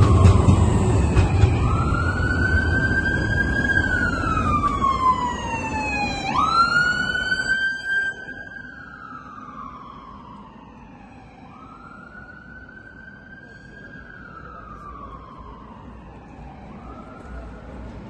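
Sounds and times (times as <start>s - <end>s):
emergency siren wailing: 0.0s - 18.0s
low rumble of passing tram: 0.0s - 18.0s.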